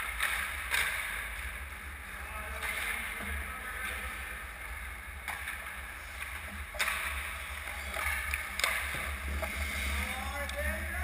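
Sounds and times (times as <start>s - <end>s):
hockey sticks and puck clacking: 0.0s - 1.8s, 2.4s - 11.0s
low steady hum: 0.0s - 11.0s.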